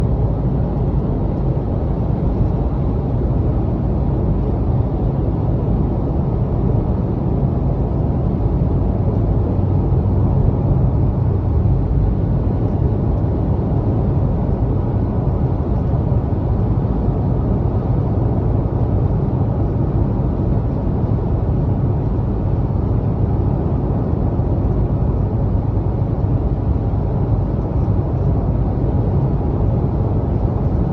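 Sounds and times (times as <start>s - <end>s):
car road and tyre noise: 0.0s - 30.9s.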